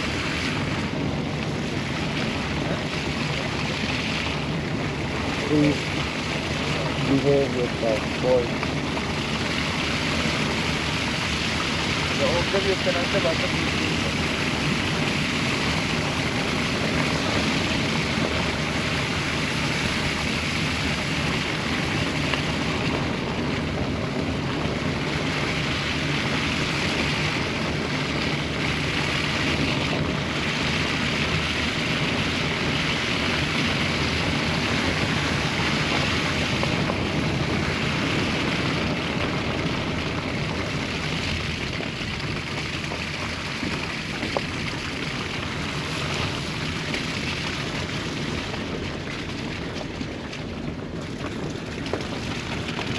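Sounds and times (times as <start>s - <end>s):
car road and wind noise: 0.0s - 52.9s.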